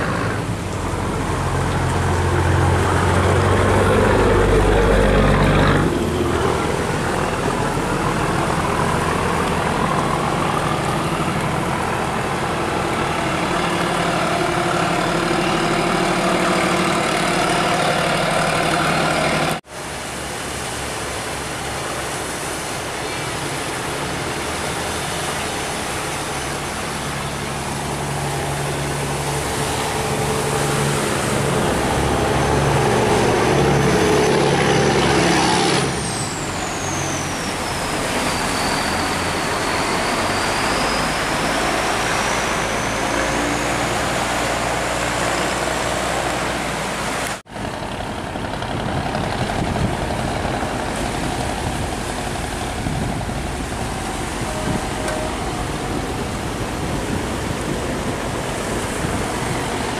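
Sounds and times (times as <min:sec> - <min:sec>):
bow wave and wake rushing: 0:00.0 - 0:59.9
diesel boat engine running: 0:00.0 - 0:59.9.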